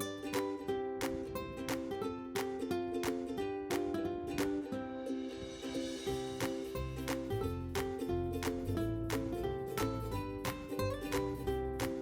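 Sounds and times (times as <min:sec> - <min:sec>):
plucked ukulele chords with beat: 0:00.0 - 0:12.0.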